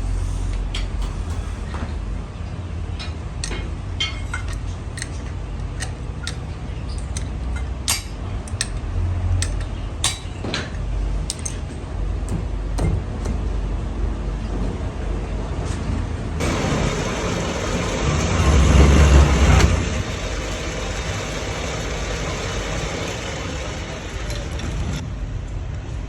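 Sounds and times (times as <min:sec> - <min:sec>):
low machinery hum: 0:00.0 - 0:26.0.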